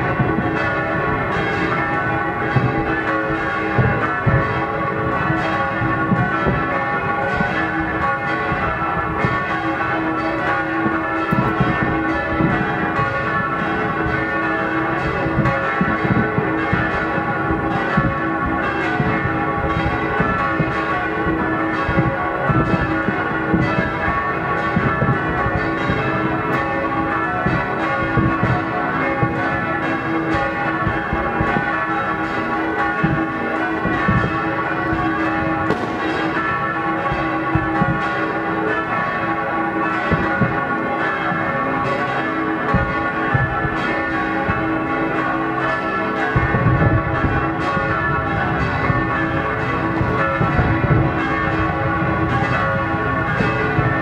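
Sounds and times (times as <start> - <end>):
church bells ringing: 0.0 - 54.0
fireworks bangs: 0.0 - 54.0.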